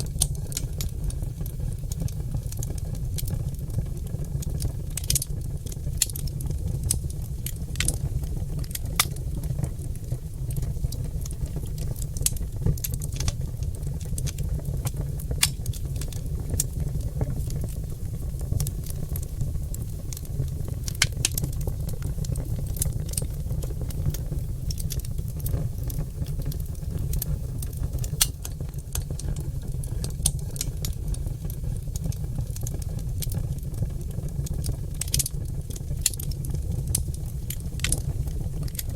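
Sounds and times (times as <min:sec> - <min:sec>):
fire crackles and pops: 0:00.0 - 0:38.9
low rumble of flames: 0:00.0 - 0:38.9.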